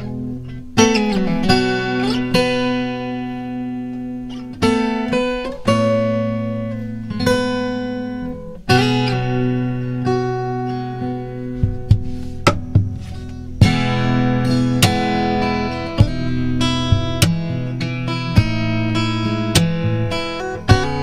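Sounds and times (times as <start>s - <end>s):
acoustic guitar fingerstyle: 0.0s - 21.0s.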